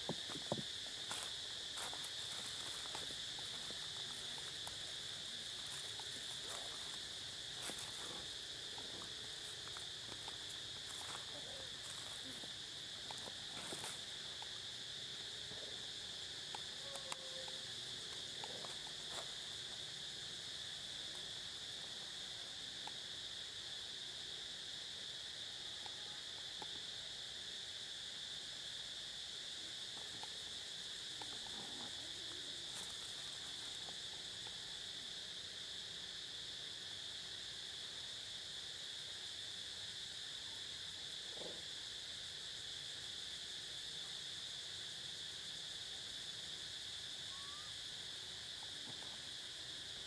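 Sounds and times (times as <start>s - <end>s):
insect chorus drone: 0.0s - 50.0s.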